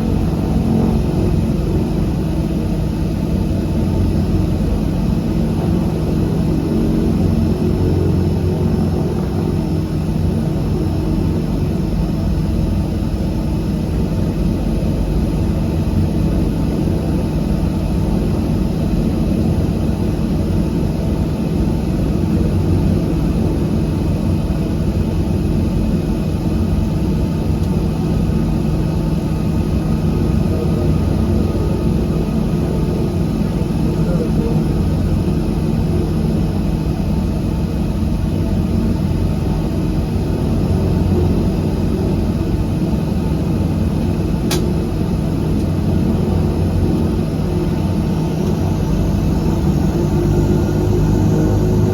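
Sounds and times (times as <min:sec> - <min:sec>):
turboprop engines droning: 0:00.0 - 0:51.9.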